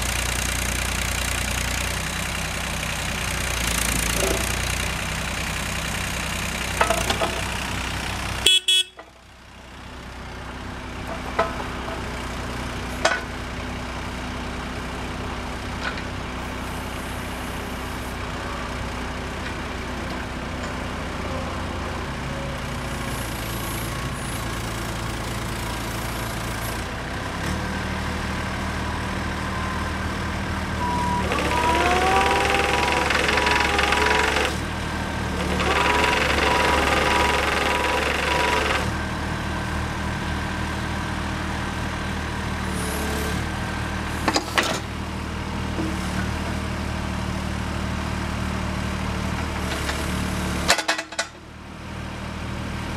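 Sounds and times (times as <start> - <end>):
diesel excavator engine running: 0.0 - 52.9.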